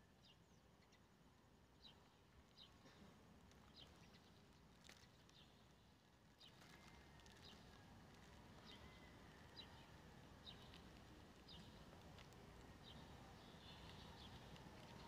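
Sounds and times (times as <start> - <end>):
faint low city hum: 0.0 - 15.0
bird chirping softly: 0.1 - 15.0.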